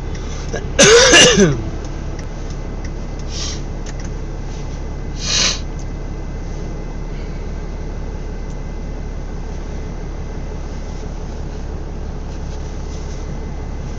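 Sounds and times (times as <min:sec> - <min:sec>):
vehicle engine and road noise: 0:00.0 - 0:13.9.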